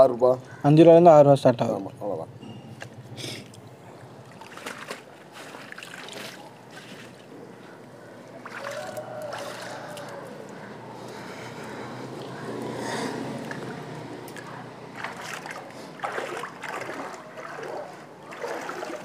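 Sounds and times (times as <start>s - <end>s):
water trickling and splashing: 3.4s - 19.0s.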